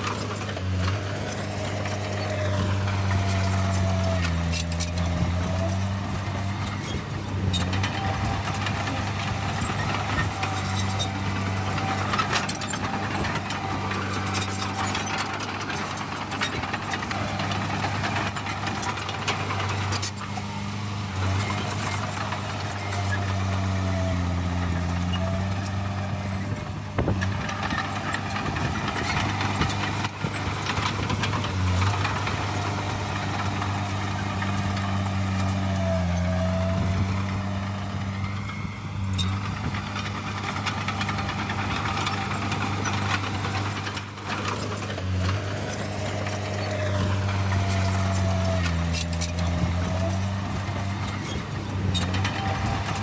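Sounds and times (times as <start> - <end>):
heavy diesel machinery running: 0.0 - 53.0.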